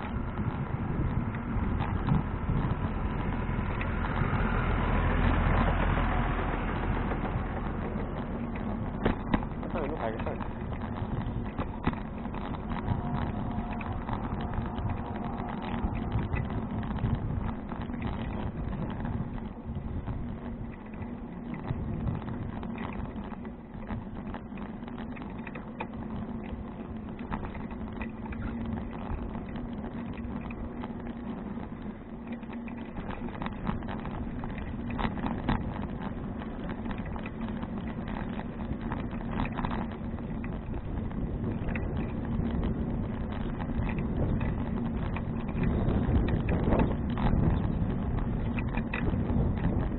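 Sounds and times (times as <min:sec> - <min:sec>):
bicycle rattling over bumps: 0:00.0 - 0:49.9
bicycle tyres rumbling on pavement: 0:00.0 - 0:49.9.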